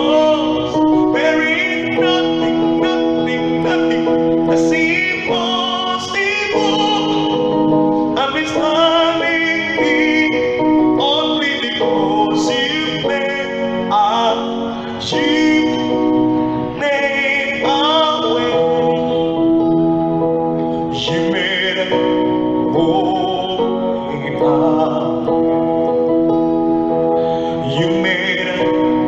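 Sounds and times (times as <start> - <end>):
electronic keyboard chords: 0.0 - 29.0
man singing into a microphone: 0.0 - 29.0.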